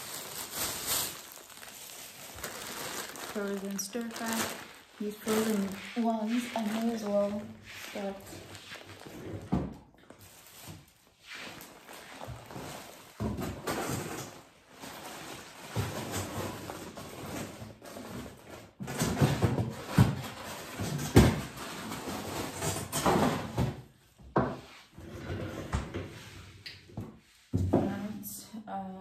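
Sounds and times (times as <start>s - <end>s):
rustling of bags and packaging: 0.0s - 23.9s.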